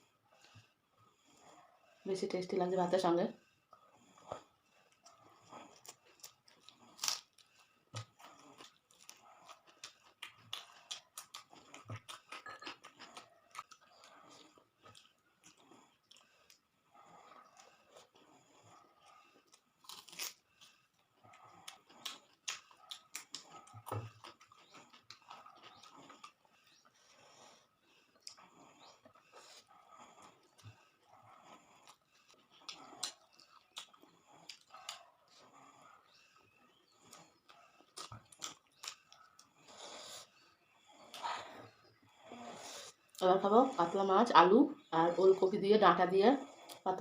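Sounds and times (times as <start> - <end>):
noisy breaths: 0.0 - 2.4, 3.3 - 10.8, 13.1 - 23.8, 24.4 - 45.4, 46.1 - 47.0
person chewing crunchy food: 3.7 - 43.2.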